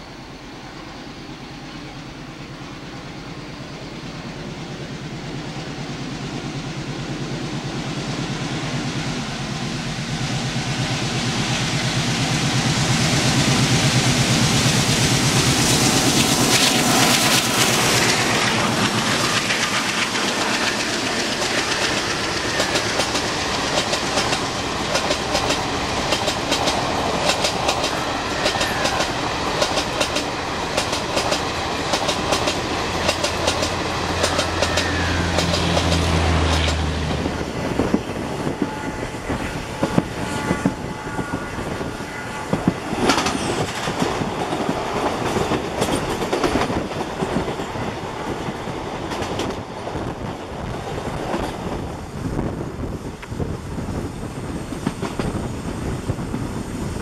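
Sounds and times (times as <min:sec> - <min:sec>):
diesel locomotive engine: 0:00.0 - 0:57.0
train passing alongside: 0:00.0 - 0:57.0
train wheels clickety-clack: 0:04.8 - 0:57.0.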